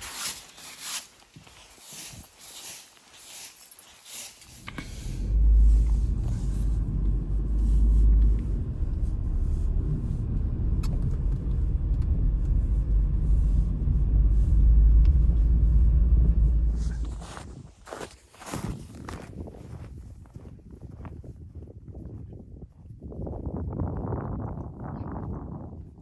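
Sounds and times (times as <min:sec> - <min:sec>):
storm wind gusting on microphone: 0:04.5 - 0:26.0.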